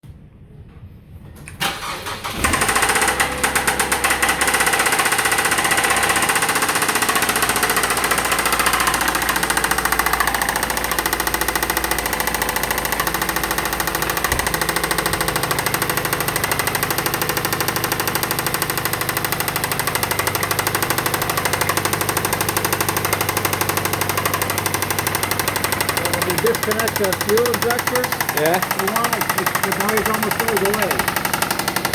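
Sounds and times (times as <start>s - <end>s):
car engine starting and idling: 1.5s - 31.9s.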